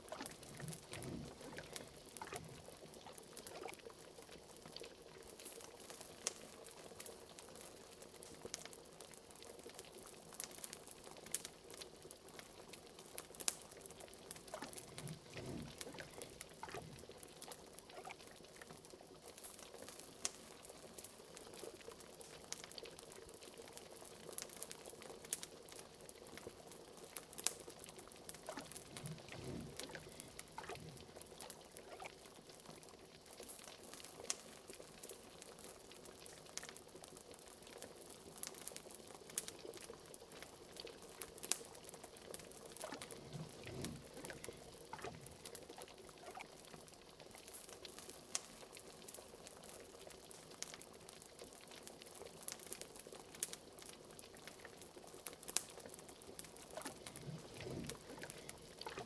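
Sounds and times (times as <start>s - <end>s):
wood fire crackling: 0.0s - 3.5s, 4.5s - 59.0s
liquid bubbling at a boil: 0.0s - 59.0s.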